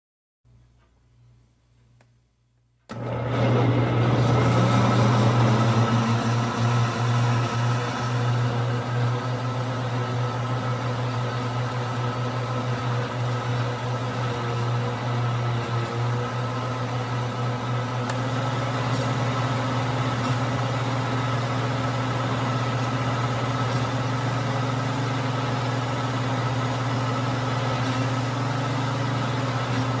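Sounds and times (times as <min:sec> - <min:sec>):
electric blender running: 0:02.9 - 0:30.0.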